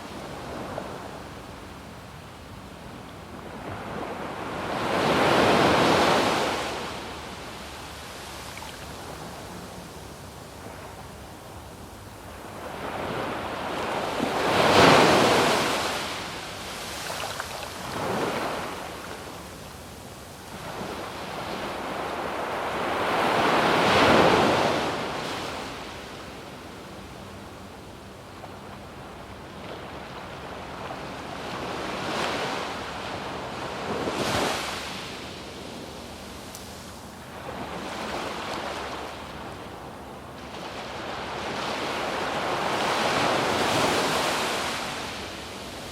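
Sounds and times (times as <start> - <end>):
waves breaking on sandy beach: 0.0 - 27.5, 28.2 - 45.9.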